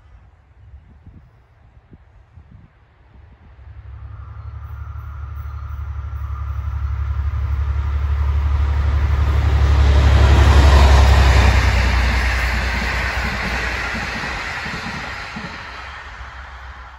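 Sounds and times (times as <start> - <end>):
diesel locomotive engine drone: 0.0 - 16.9
train carriages passing: 3.0 - 16.9.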